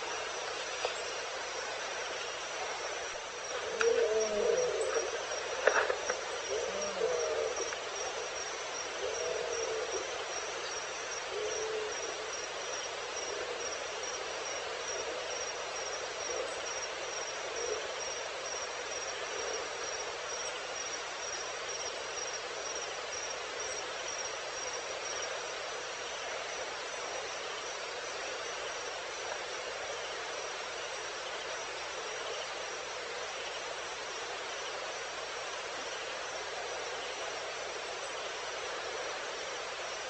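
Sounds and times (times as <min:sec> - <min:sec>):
dense insect chirping hiss: 0:00.0 - 0:40.0.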